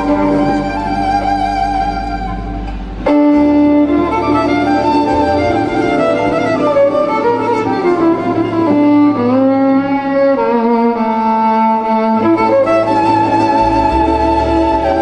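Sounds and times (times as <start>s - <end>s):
violin folk melody: 0.0s - 15.0s.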